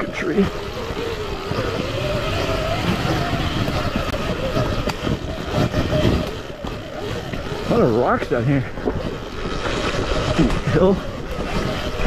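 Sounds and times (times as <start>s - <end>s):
bike knocks and rattles: 0.0s - 12.0s
electric motor whine: 0.0s - 12.0s.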